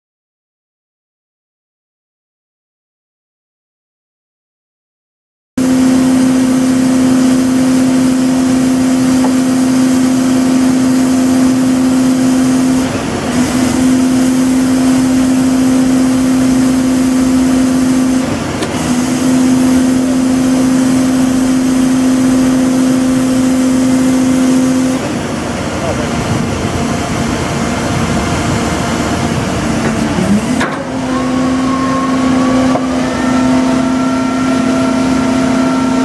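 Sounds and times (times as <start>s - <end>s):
vibratory pile driver humming: 5.6s - 36.0s.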